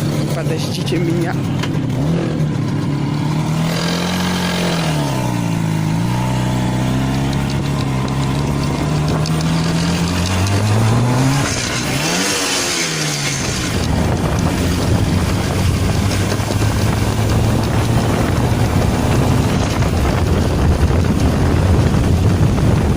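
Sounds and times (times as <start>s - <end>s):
two-stroke motorcycle engine: 0.0s - 22.9s.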